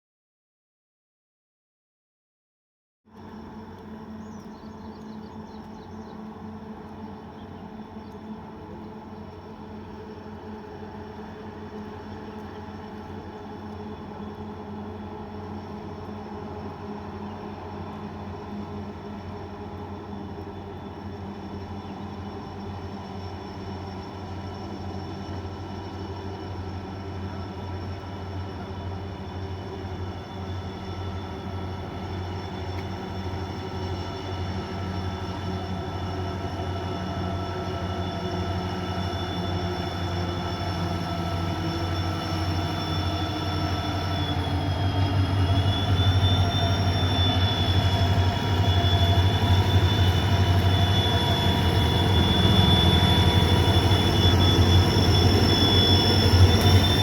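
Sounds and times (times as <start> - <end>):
freight train locomotive hum and whine: 3.1 - 57.0.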